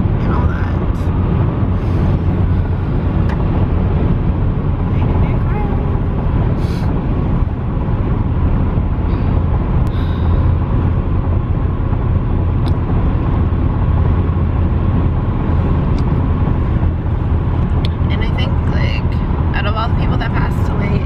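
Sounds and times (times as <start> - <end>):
car cabin road and engine rumble: 0.0 - 21.0.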